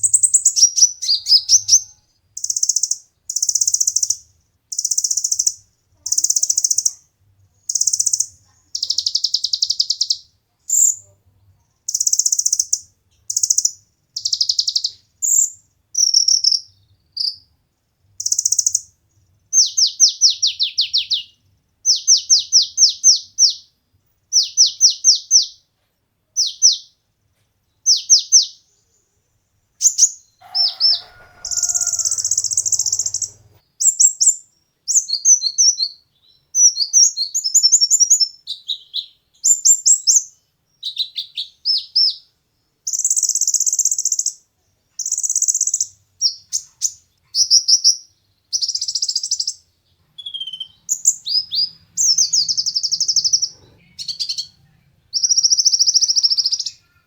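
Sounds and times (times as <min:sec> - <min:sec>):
sunbird singing high-pitched phrases: 0:00.0 - 0:11.2, 0:11.8 - 0:17.5, 0:18.2 - 0:25.7, 0:26.4 - 0:27.0, 0:27.7 - 0:29.0, 0:29.8 - 0:42.3, 0:45.0 - 0:57.0.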